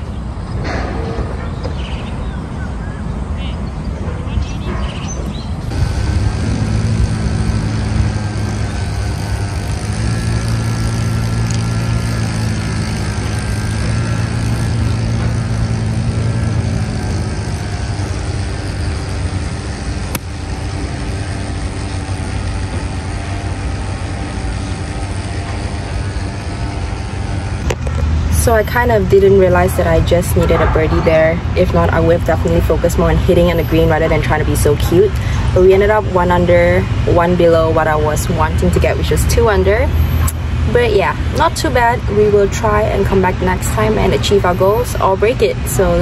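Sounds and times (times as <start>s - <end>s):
vehicle engine idling: 5.6s - 46.0s.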